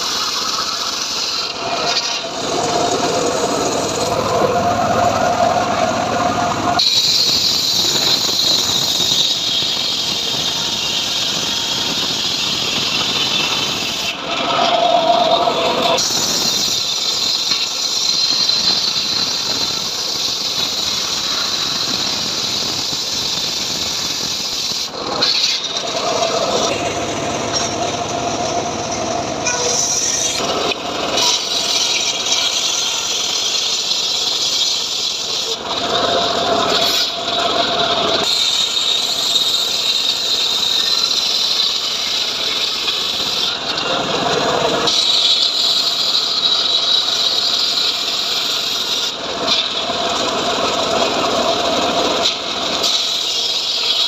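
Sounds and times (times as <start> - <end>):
blade cutting wood: 0.0 - 28.4, 29.4 - 54.0
sawmill blade whining: 0.0 - 54.0.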